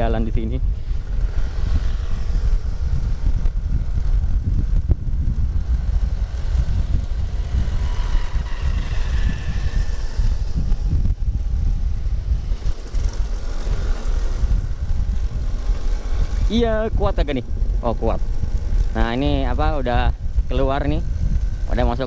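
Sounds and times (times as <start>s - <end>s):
passing motorcycles engine whine: 0.0s - 22.0s
surrounding traffic: 0.0s - 22.0s
wind buffeting microphone: 0.0s - 22.0s
scooter engine: 0.6s - 22.0s.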